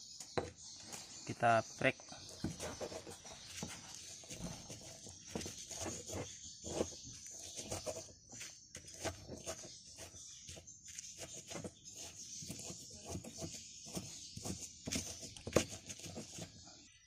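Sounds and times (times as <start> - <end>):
stone pestle grinding in mortar: 2.4 - 16.4.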